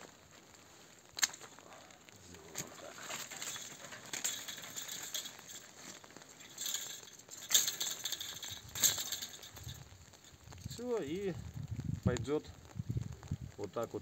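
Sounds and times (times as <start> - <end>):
rustle of canes and dry leaves: 0.0 - 14.0.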